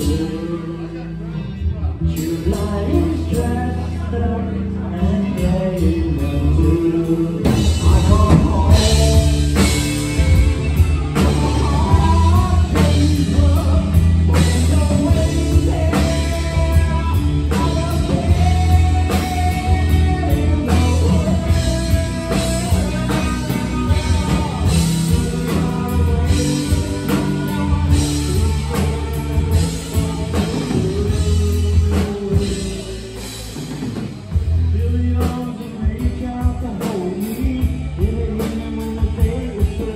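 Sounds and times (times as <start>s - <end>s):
drum kit: 0.0s - 0.9s, 1.8s - 39.9s
bass guitar: 0.0s - 39.9s
electric guitar: 0.0s - 39.9s
lead vocals: 0.0s - 39.9s.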